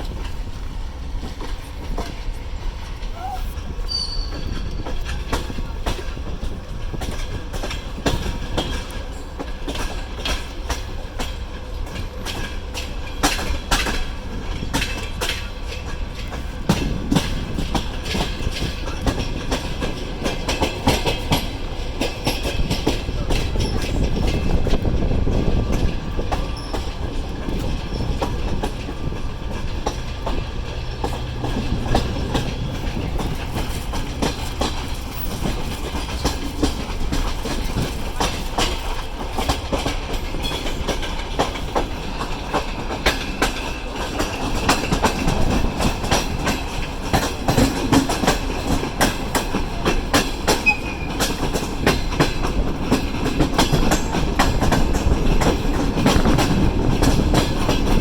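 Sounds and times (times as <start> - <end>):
train rumble: 0.0 - 58.0
train wheels clattering over rail joints: 0.0 - 58.0.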